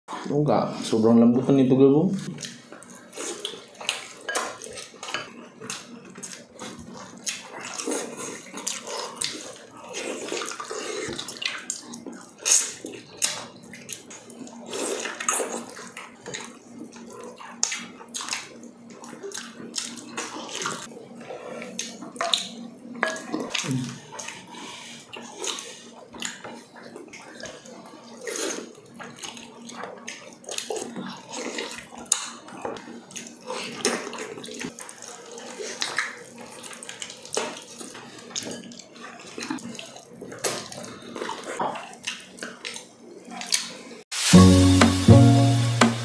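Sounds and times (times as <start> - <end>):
wet chewing and lip-smacking: 2.3 - 20.9, 21.6 - 43.8.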